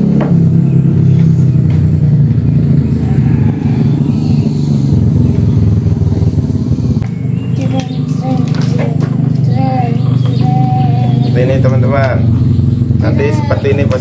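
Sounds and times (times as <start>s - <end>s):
engine running with low hum: 0.0s - 14.0s.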